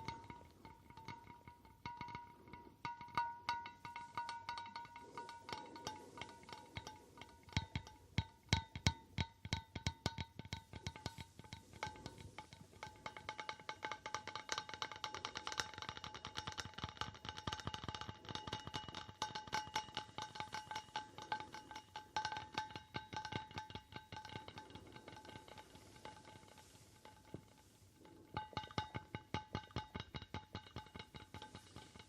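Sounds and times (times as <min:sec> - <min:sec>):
rapid tapping on hard object: 0:00.0 - 0:32.0.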